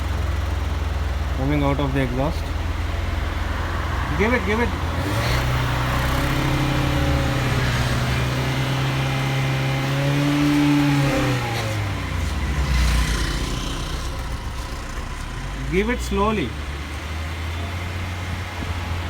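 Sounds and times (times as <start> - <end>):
car engine revving: 1.4 - 19.0.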